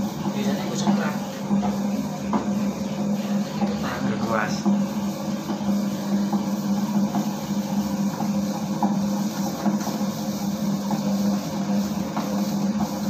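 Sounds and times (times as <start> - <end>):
dough mixer motor hum: 0.0 - 13.0.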